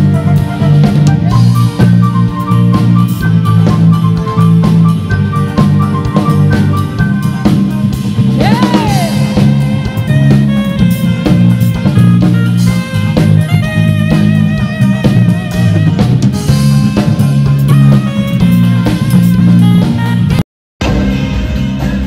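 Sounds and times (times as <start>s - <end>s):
live band playing dance music: 0.0s - 22.0s.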